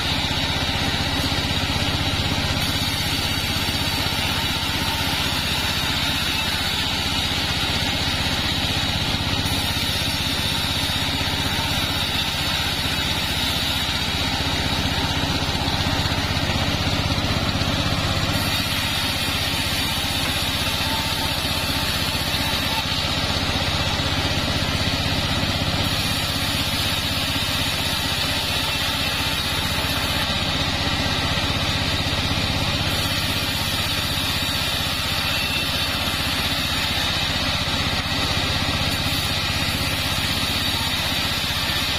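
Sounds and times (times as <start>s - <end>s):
bandsaw mill cutting wood: 0.0s - 41.9s.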